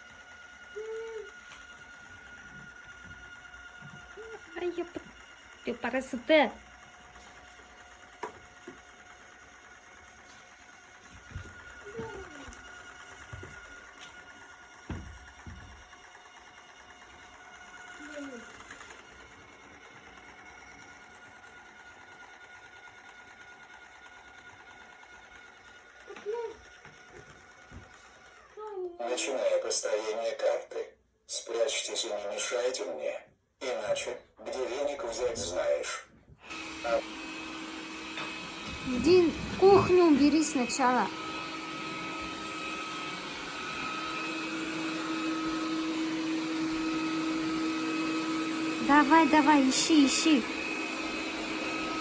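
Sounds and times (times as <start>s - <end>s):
robot vacuum motor whine: 0.0s - 29.2s, 36.4s - 52.0s.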